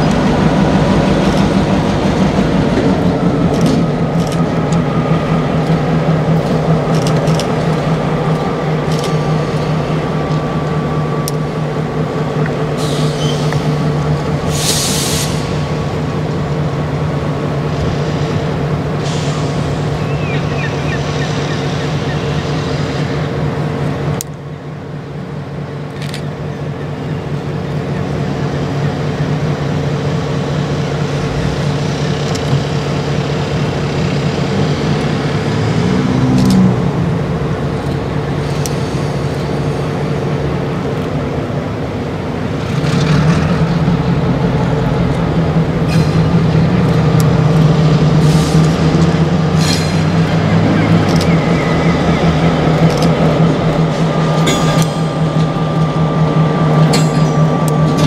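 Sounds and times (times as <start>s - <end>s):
locomotive engine humming: 0.0s - 58.0s.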